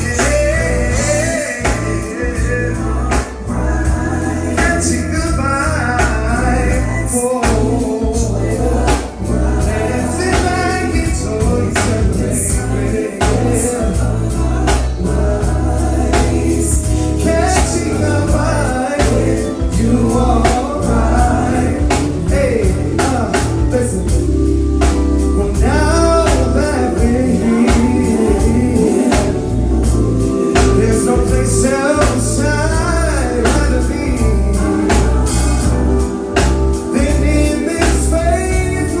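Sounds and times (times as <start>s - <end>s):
drums hitting steadily: 0.0s - 39.0s
heavy sustained bass line: 0.0s - 39.0s
live band playing: 0.0s - 39.0s
person singing: 0.0s - 39.0s.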